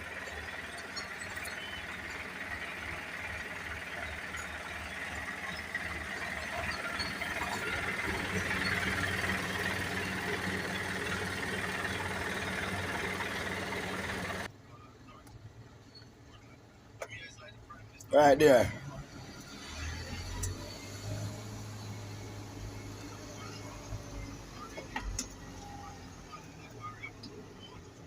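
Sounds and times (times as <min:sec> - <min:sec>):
garbage truck diesel engine: 0:00.0 - 0:14.5, 0:18.1 - 0:28.0.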